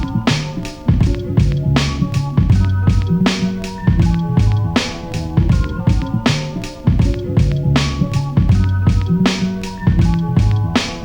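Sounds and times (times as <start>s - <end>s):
held bass notes: 0.0s - 11.0s
kick and snare drums: 0.0s - 11.0s
looped melodic sample: 0.0s - 11.0s.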